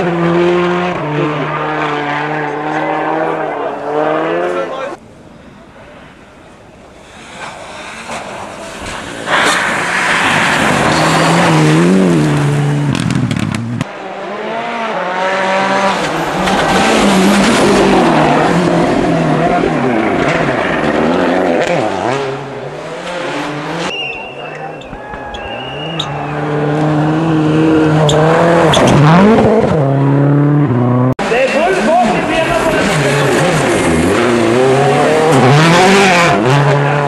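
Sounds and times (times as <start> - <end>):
rally car engines revving: 0.0 - 5.0, 7.0 - 37.0.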